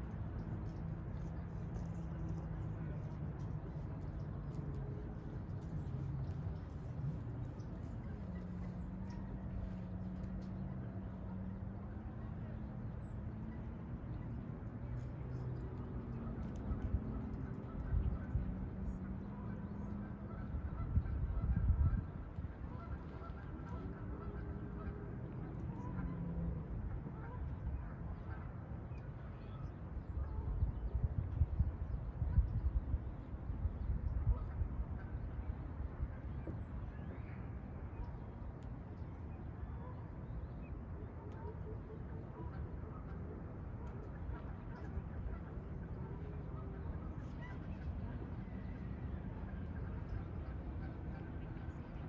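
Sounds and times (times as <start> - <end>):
constant low rumble: 0.0 - 52.0.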